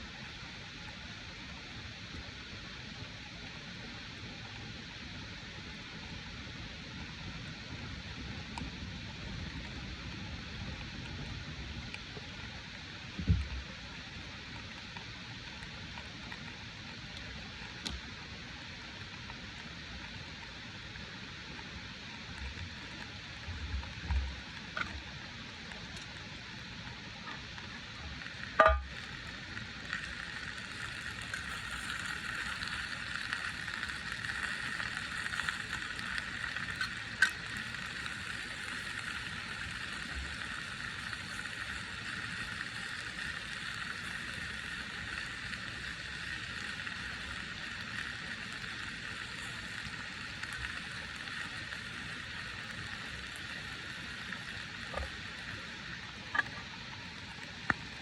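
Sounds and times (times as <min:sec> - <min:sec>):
food sizzling in a pan: 0:04.8 - 0:58.0.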